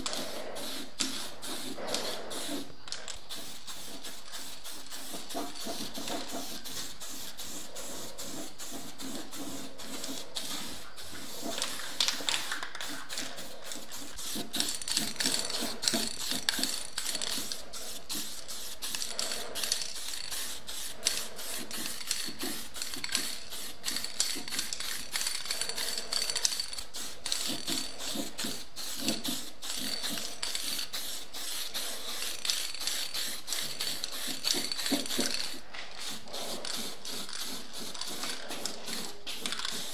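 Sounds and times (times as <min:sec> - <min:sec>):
spray paint can hissing: 0:00.0 - 0:39.9.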